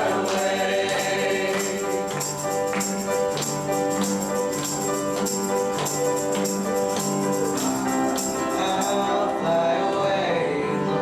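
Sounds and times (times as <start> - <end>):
tambourine beat: 0.0 - 9.6.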